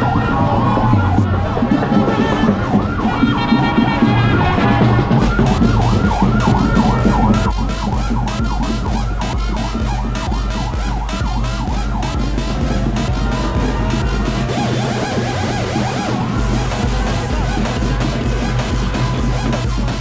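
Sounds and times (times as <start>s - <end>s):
thumping music beat: 0.0s - 20.0s
yelping siren wail: 0.0s - 20.0s.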